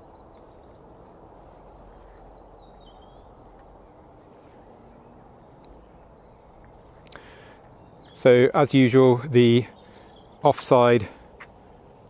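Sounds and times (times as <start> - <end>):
faint bird chirps: 0.0 - 12.0
low steady hum: 0.0 - 12.0.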